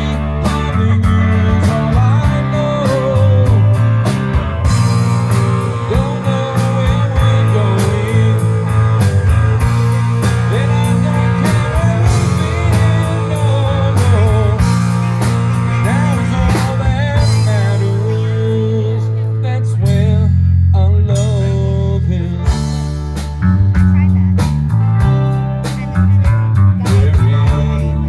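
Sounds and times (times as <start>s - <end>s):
drums with cymbal strokes: 0.0s - 18.5s, 22.5s - 28.0s
bass guitar: 0.0s - 28.0s
lead electric guitar: 0.0s - 28.0s.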